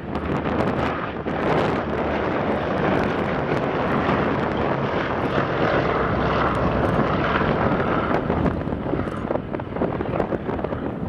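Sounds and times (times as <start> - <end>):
propeller engine drone: 0.0 - 11.0.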